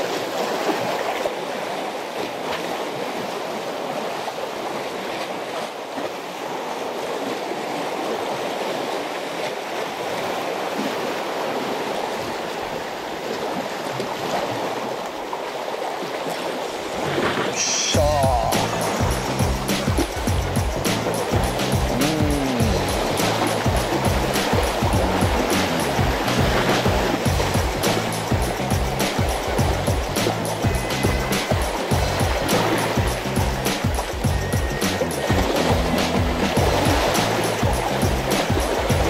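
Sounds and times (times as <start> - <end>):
sea waves washing among concrete blocks: 0.0 - 39.0.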